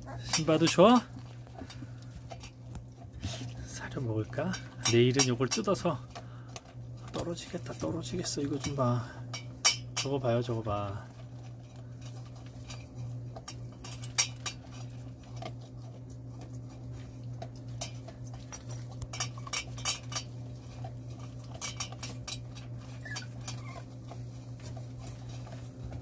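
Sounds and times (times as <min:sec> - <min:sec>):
puppies scrambling clicks and taps: 0:00.0 - 0:26.0
steady low hum: 0:00.0 - 0:26.0.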